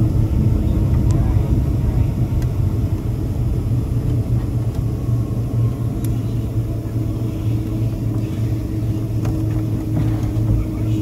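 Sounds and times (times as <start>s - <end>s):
airplane taxiing cabin rumble: 0.0s - 11.0s
faint steady hum: 0.0s - 11.0s.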